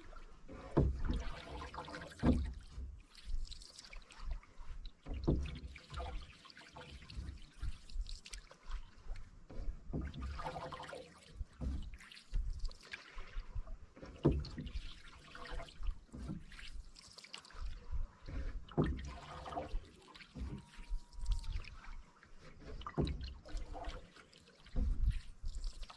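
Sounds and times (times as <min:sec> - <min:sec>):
paddle swishing through water: 0:00.0 - 0:25.9
water dripping off paddle: 0:00.0 - 0:25.9.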